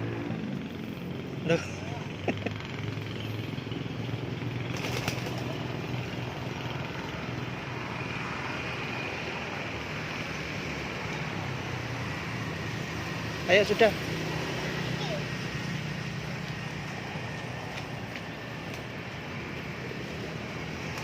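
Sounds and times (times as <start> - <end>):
outdoor background hum: 0.0 - 21.0.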